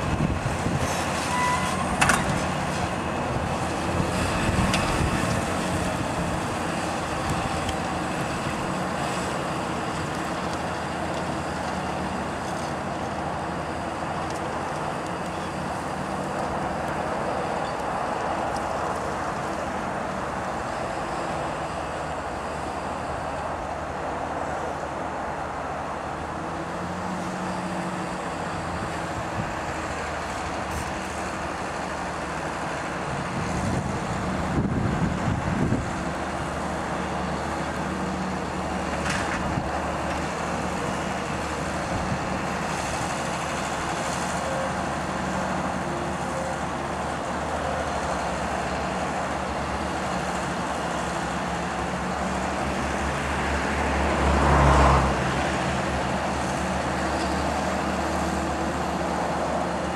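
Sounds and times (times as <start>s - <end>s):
tractor diesel engine running: 0.0s - 54.5s.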